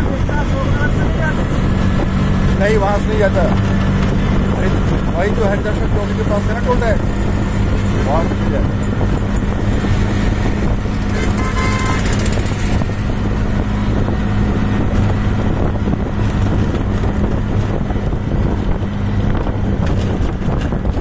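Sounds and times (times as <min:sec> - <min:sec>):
auto-rickshaw engine running: 0:00.0 - 0:21.0
road and wind noise: 0:00.0 - 0:21.0.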